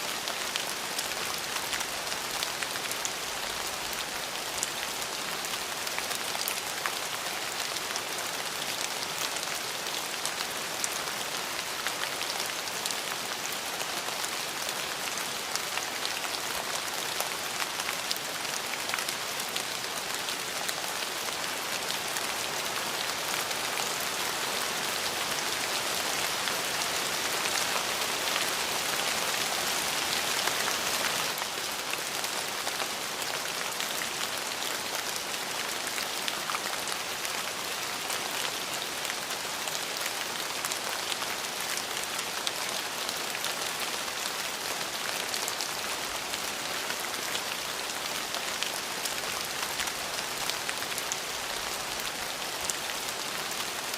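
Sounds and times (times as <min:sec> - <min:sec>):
rain pattering on a surface: 0:00.0 - 0:53.9.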